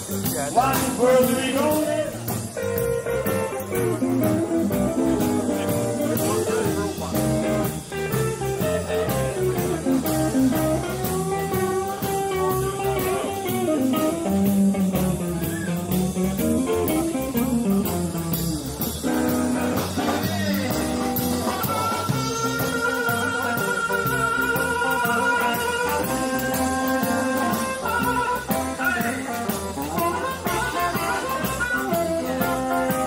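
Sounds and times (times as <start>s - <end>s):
blues guitar lead lines: 0.0s - 33.0s
steady beat: 0.0s - 33.0s.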